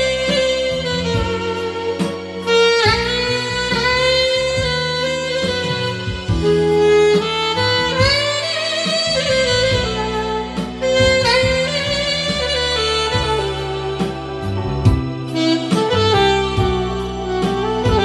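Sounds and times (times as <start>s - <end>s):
backing track: 0.0s - 18.0s
saxophone playing slow melody: 0.0s - 18.0s.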